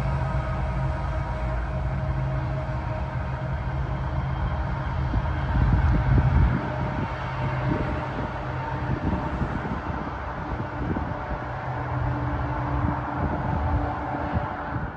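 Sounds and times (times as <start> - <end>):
diesel locomotive rumbling: 0.0 - 14.9
wind buffeting microphone: 0.0 - 14.9.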